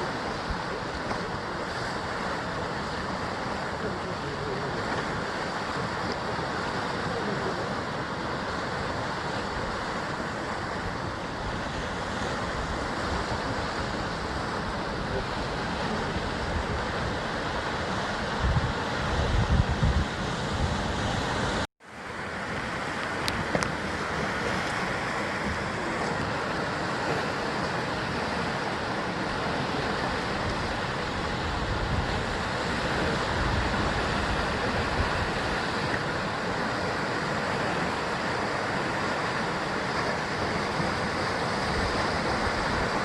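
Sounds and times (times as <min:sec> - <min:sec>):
surf breaking on rocks: 0:00.0 - 0:43.0
wind gusts on microphone: 0:00.0 - 0:43.0.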